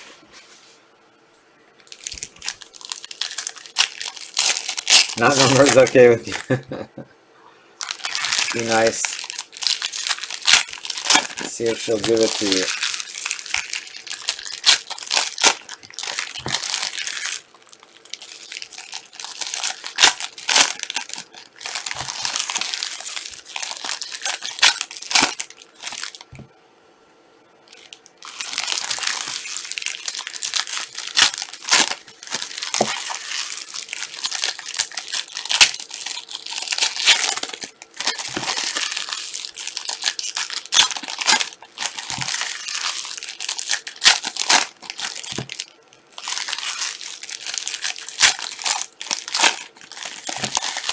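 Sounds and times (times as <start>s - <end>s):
plastic wrapping crinkling and tearing: 1.8s - 6.7s, 7.8s - 26.5s, 27.7s - 50.9s.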